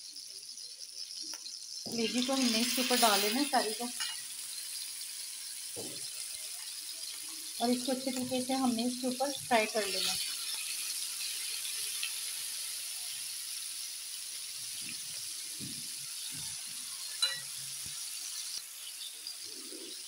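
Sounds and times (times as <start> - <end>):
liver sizzling on griddle: 0.0 - 20.0.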